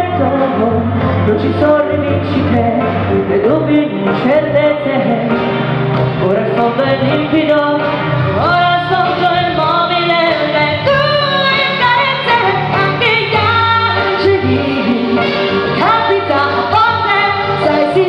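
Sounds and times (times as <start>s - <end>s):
band playing pop music: 0.0s - 18.0s.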